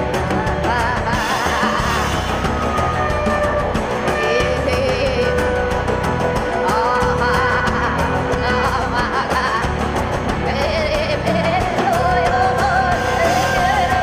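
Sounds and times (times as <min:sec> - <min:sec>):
drums beating: 0:00.0 - 0:14.0
live band music: 0:00.0 - 0:14.0.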